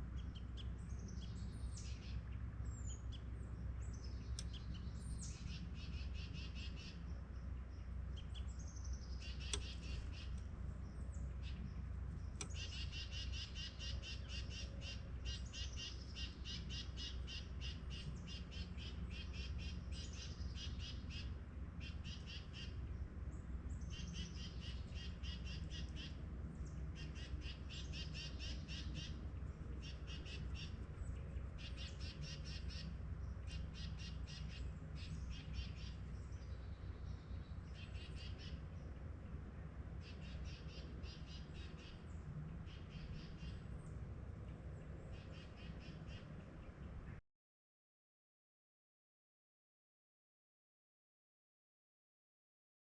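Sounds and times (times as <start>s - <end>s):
low background rumble: 0.0s - 47.2s
birds chattering: 0.1s - 47.1s.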